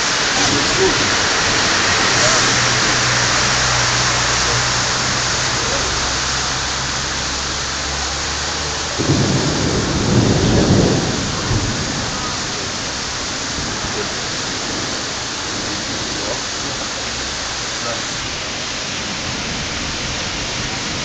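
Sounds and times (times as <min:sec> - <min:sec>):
heavy rain pouring: 0:00.0 - 0:21.0
thunder rumble: 0:00.0 - 0:21.0.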